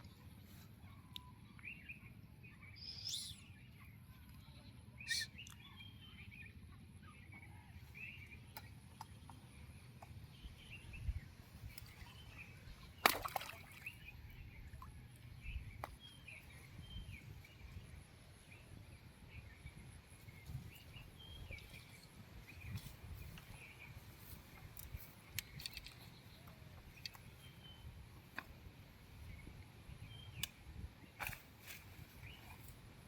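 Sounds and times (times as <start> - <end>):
low rumble of wind: 0.0 - 33.0
small birds chirping: 0.1 - 33.0.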